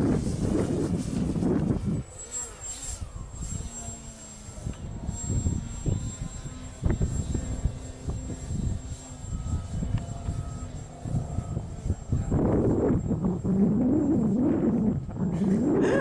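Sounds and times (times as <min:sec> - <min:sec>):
model plane engine drone: 0:00.0 - 0:16.0
wind rumbling on microphone: 0:00.0 - 0:16.0.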